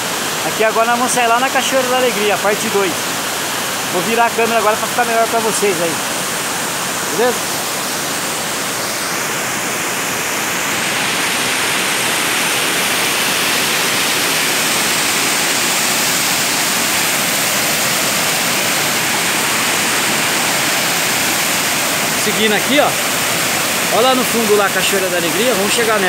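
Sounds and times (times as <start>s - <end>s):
waterfall rushing over rocks: 0.0s - 26.0s.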